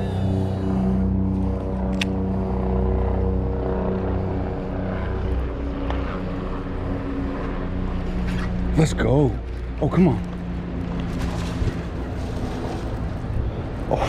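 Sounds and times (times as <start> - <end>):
steady engine drone: 0.0 - 14.0.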